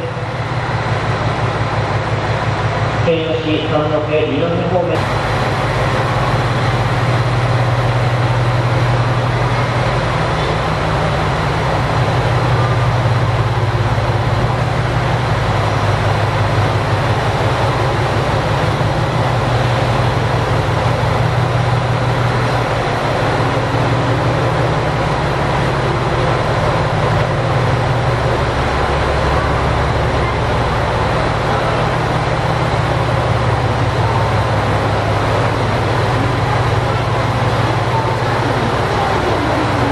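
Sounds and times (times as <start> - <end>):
diesel railcar engine idling: 0.0 - 39.9.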